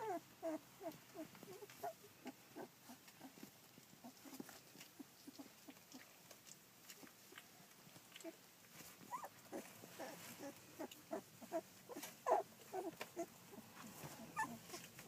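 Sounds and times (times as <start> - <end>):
puppies squeaking and grunting: 0.0 - 15.0.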